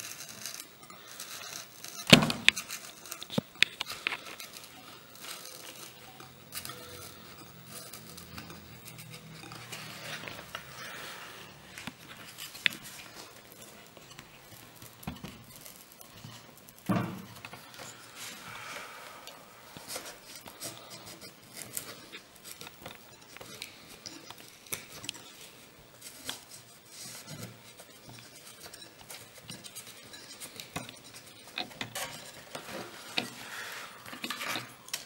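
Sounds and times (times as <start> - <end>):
faint rustling: 0.0 - 35.0.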